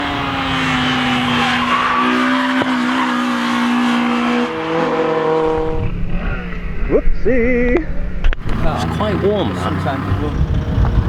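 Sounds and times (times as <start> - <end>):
race car engine: 0.0 - 7.1, 7.8 - 11.0.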